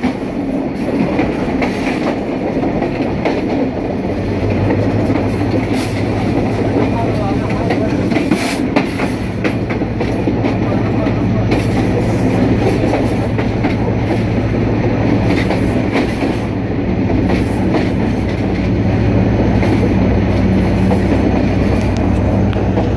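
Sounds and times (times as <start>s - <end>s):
train wheels rumbling on rails: 0.0s - 22.9s.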